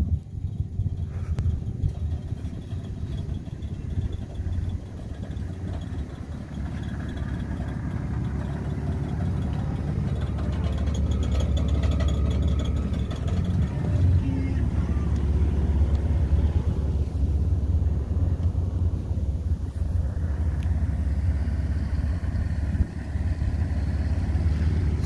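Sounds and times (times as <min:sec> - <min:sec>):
truck engine rumbling: 0:00.0 - 0:25.0.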